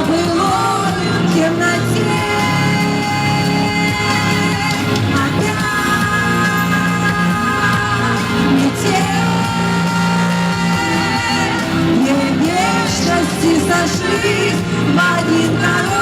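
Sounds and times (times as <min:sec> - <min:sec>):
pop ballad music with singing: 0:00.0 - 0:16.0.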